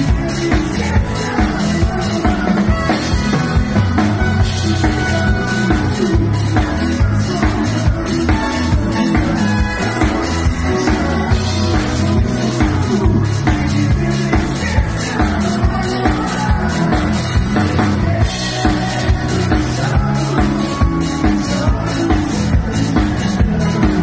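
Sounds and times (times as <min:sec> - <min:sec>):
drum kit beat: 0:00.0 - 0:24.0
live dance band playing: 0:00.0 - 0:24.0.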